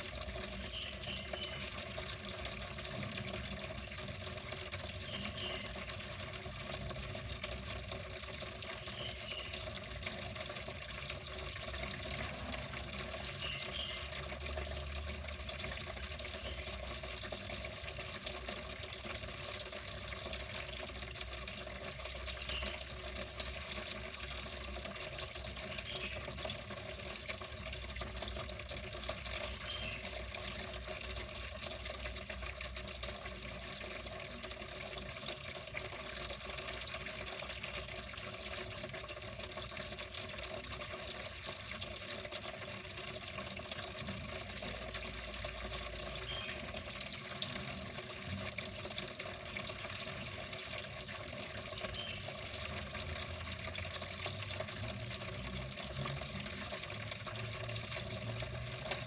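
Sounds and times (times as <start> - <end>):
water running: 0.0 - 59.0.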